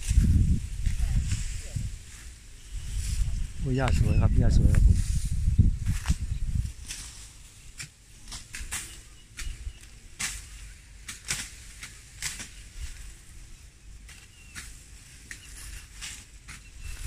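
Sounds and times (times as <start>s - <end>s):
grass stalks swishing and snapping: 0.0s - 17.0s
long leaves rustling: 0.0s - 17.0s.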